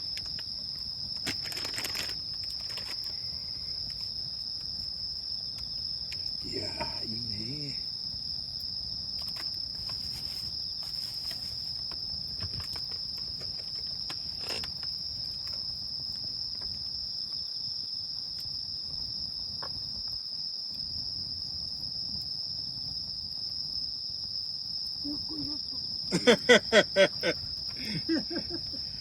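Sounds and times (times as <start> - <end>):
campfire crackling: 0.0 - 29.0
crickets chirping: 0.0 - 29.0.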